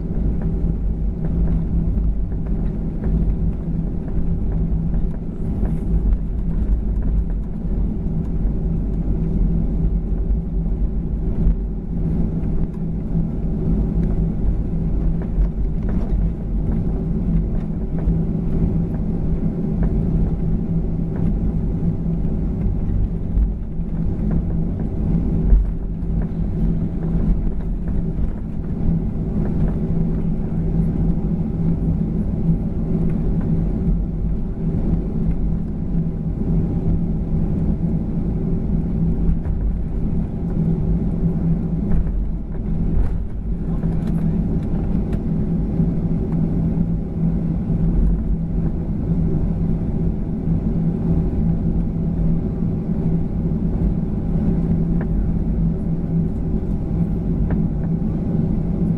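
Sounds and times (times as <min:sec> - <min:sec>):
jet engines humming: 0:00.0 - 0:58.9
wheels rumbling: 0:00.0 - 0:58.9.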